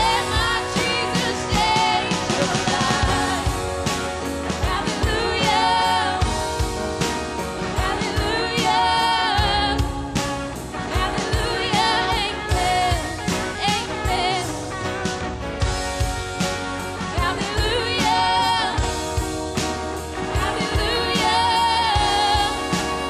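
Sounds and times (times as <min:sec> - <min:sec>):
bass: 0:00.0 - 0:23.0
drums keeping steady beat: 0:00.0 - 0:23.0
guitars: 0:00.0 - 0:23.0
keyboard: 0:00.0 - 0:23.0.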